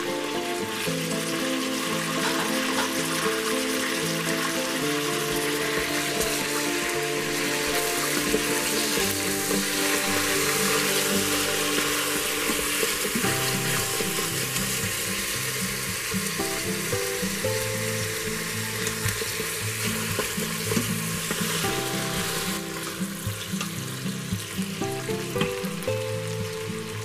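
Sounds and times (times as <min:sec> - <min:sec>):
background music with held notes: 0:00.0 - 0:27.0
chicken sizzling in oil: 0:00.0 - 0:27.0.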